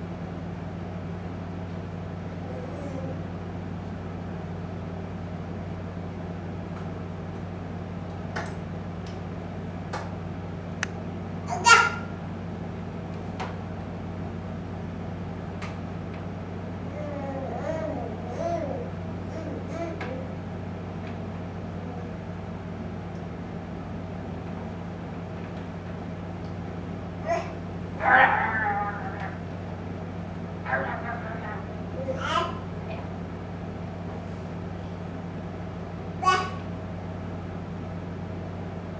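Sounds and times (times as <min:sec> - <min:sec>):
low room hum: 0:00.0 - 0:38.9.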